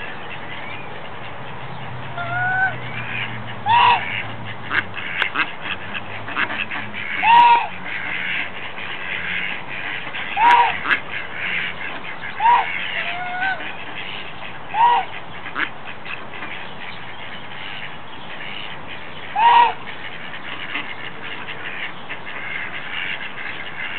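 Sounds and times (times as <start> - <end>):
mallards calling: 0.0 - 23.9.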